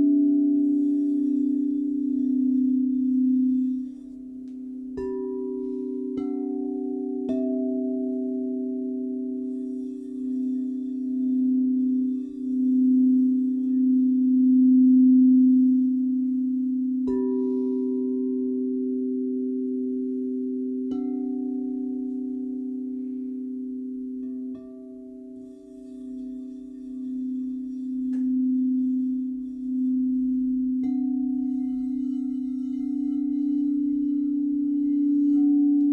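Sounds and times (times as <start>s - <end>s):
singing bowls ringing: 0.0s - 35.9s.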